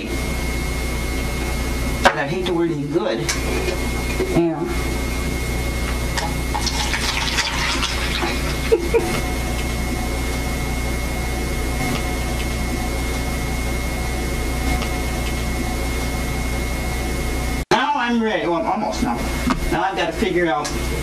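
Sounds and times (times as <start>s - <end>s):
low hum with hiss: 0.0s - 21.0s.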